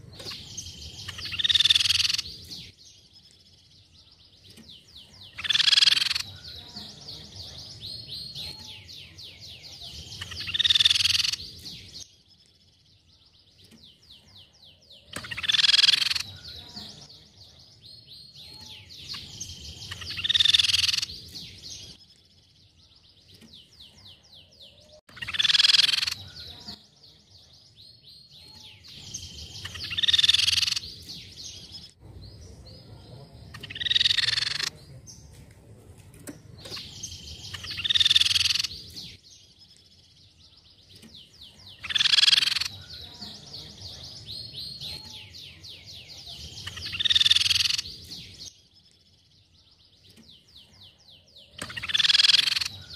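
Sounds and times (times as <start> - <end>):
bird singing ringing phrases: 0.0 - 52.9
dry trilling bird chatter: 0.0 - 52.9.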